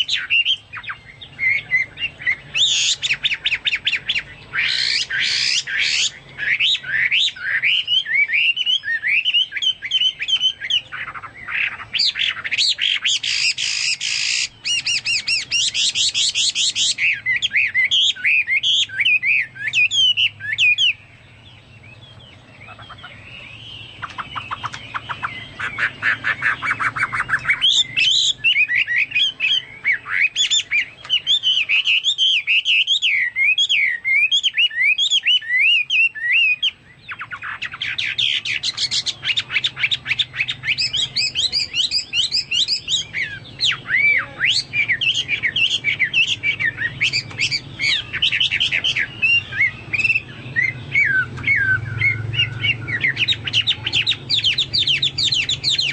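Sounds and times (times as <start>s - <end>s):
songbird whistling and trilling: 0.0s - 55.9s.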